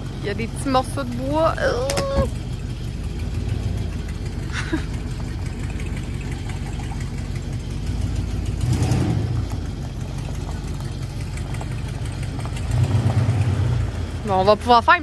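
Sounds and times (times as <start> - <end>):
motorhome engine running: 0.0 - 15.0.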